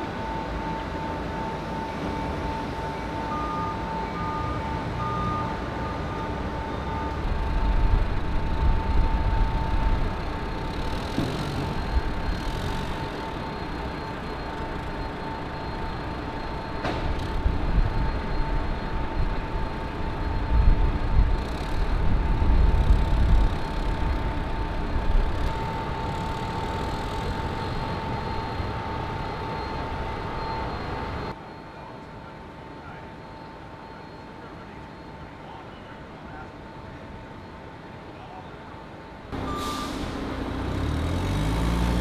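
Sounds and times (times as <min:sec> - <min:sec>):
forklift engine rumble: 0:00.0 - 0:31.4, 0:39.3 - 0:42.0.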